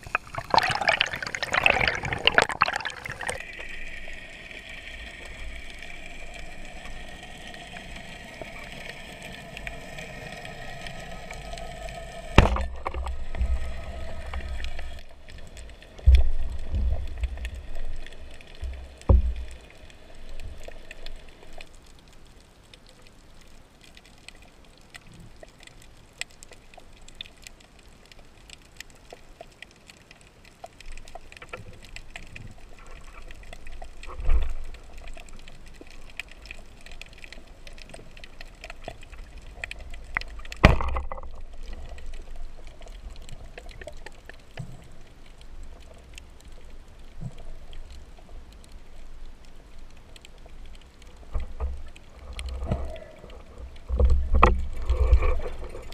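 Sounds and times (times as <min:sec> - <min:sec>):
faint crackling clicks: 0:00.0 - 0:55.9
muffled underwater wash: 0:00.0 - 0:55.9.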